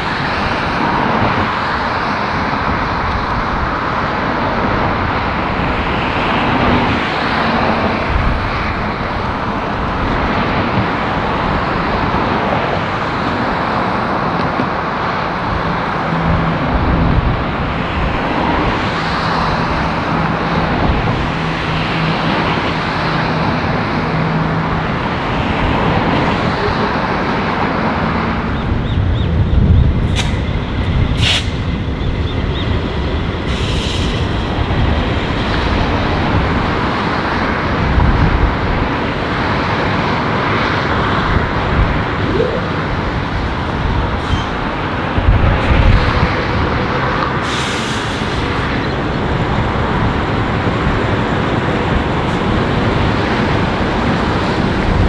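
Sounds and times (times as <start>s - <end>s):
locomotive engines humming: 0.0s - 55.0s
train rumbling along track: 0.0s - 55.0s.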